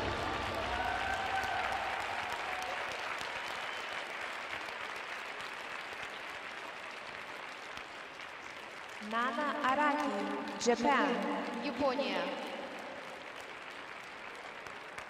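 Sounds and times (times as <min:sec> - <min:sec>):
arena audience applauding: 0:00.0 - 0:15.0.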